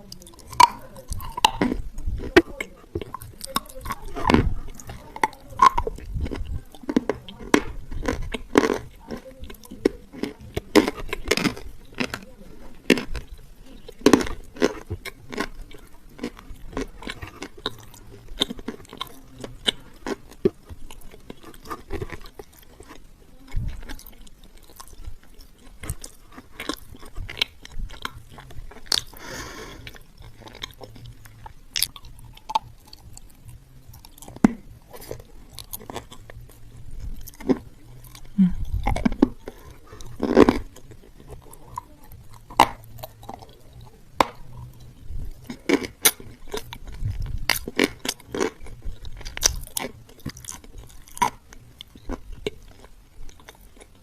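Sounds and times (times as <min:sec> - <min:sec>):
person crunching and chewing clay: 0:00.0 - 0:54.0.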